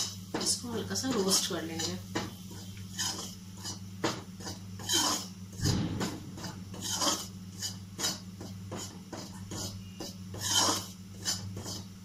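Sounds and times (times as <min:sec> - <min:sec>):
spoon scraping a steel pan: 0:01.1 - 0:05.6, 0:06.4 - 0:11.9.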